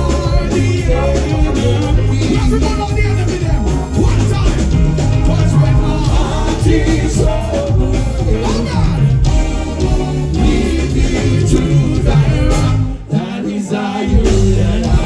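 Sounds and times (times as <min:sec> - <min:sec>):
live band with bass and drums: 0:00.0 - 0:13.4, 0:14.1 - 0:15.0
person singing: 0:00.0 - 0:15.0.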